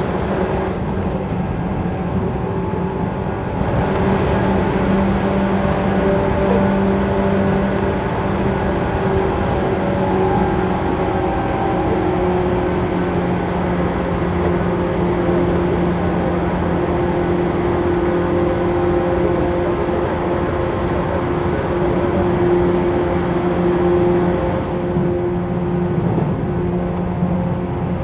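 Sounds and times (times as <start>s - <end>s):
train wheels on rails: 0.0s - 27.4s
train motor hum: 0.0s - 27.8s.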